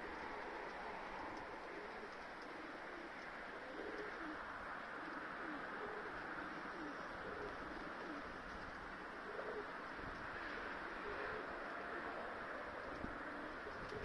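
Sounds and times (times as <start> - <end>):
pigeons cooing: 0.0 - 14.0
steady background hiss: 0.0 - 14.0.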